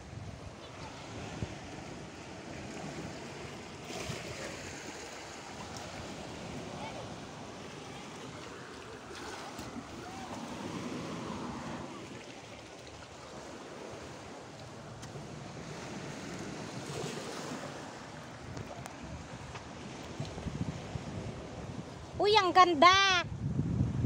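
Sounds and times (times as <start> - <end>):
wind on microphone: 0.0 - 12.2, 15.0 - 24.0
waves washing against rocks: 0.9 - 22.0.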